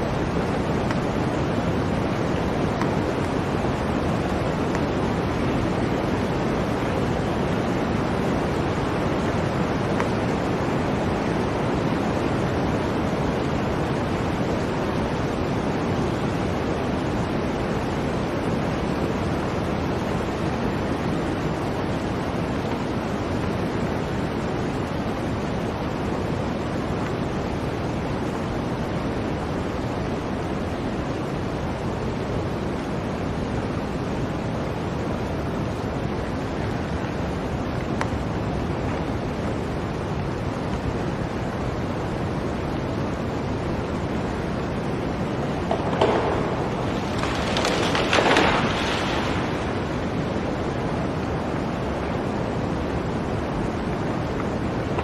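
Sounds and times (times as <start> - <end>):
blizzard wind blowing: 0.0 - 55.0.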